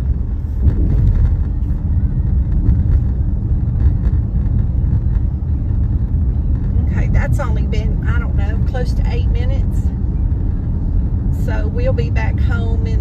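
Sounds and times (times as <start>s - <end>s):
car tyre and engine rumble: 0.0s - 13.0s.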